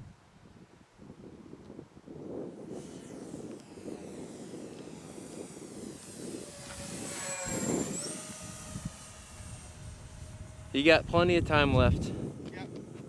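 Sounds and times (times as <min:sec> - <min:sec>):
wind rumble on microphone: 0:00.0 - 0:13.0
model plane motors whining: 0:01.6 - 0:13.0.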